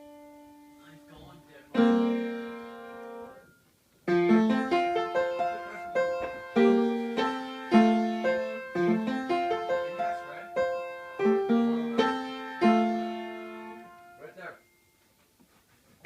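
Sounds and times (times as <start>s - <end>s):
solo piano music: 0.0s - 14.9s.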